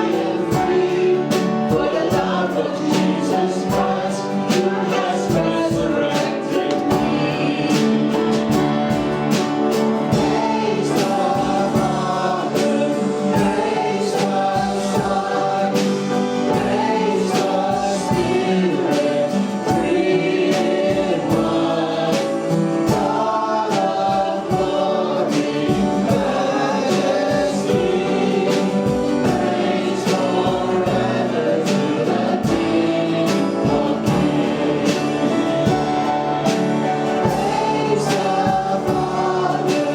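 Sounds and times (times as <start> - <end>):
band accompaniment: 0.0 - 39.9
group singing worship song: 0.0 - 39.9
steady drum beat: 0.0 - 39.9.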